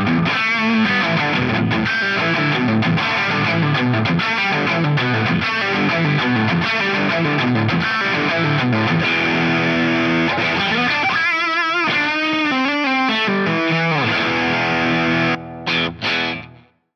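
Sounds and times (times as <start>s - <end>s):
overdriven electric guitar lead: 0.0s - 16.8s.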